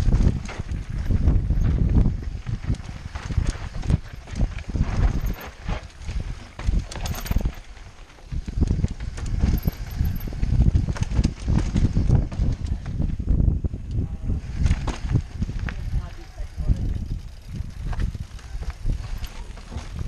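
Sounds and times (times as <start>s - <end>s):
mountain bike rattling on trail: 0.0s - 13.8s, 14.4s - 20.0s.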